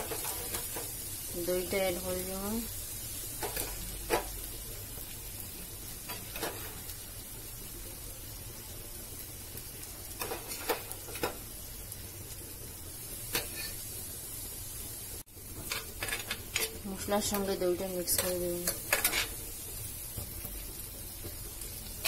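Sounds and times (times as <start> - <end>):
masala sizzling in a pan: 0.0 - 22.0.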